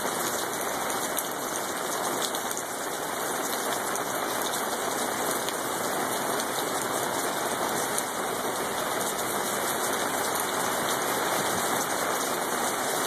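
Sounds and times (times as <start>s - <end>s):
heavy rain on street and cars: 0.0s - 13.0s.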